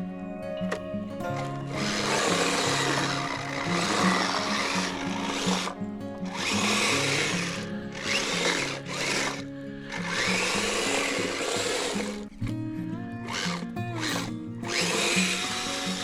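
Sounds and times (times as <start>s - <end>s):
background music: 0.0s - 16.0s
toy vehicle motor whirring: 1.7s - 12.2s, 13.3s - 16.0s.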